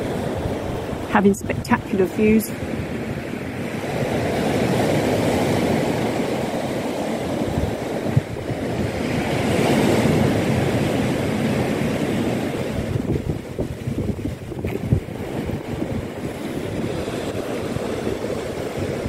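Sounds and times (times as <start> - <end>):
surf breaking on beach: 0.0 - 19.0
wind on microphone: 0.0 - 19.0.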